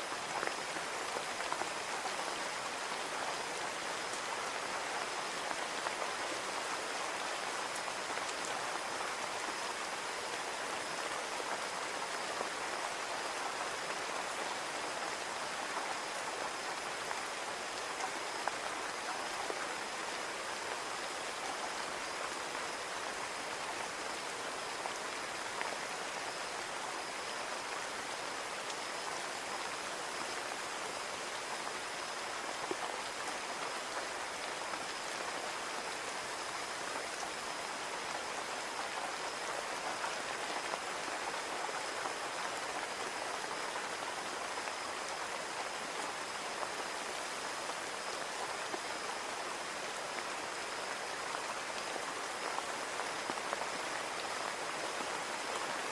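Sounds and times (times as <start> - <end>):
rain hissing on a window: 0.0 - 55.9.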